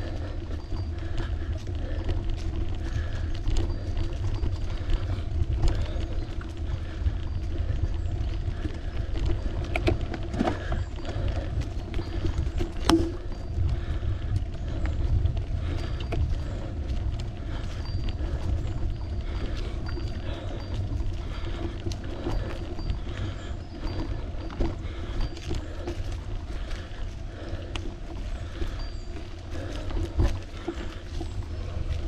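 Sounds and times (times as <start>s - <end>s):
bicycle tyres rolling on road: 0.0s - 32.0s
small clicks and rattles: 0.0s - 32.0s
wind on microphone: 0.0s - 32.0s.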